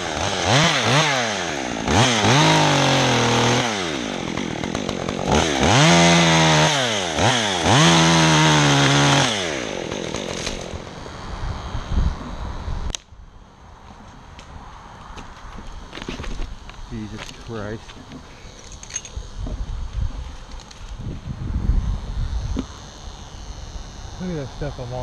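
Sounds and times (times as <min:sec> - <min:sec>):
chainsaw revving and cutting wood: 0:00.0 - 0:13.0, 0:16.0 - 0:25.0.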